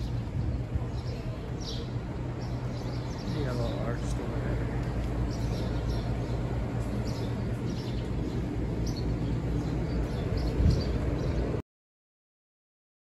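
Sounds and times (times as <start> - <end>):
low outdoor rumble: 0.0 - 11.6
small birds chirping: 0.0 - 11.6.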